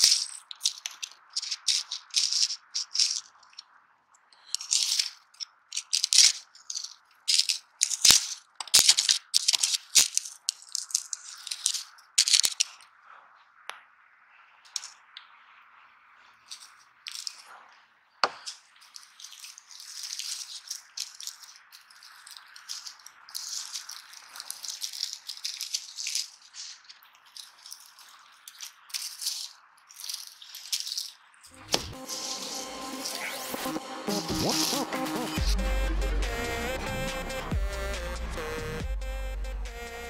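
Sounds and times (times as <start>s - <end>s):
charred matchsticks crunching: 0.0s - 3.6s, 4.4s - 12.9s, 16.5s - 17.5s, 18.3s - 37.9s.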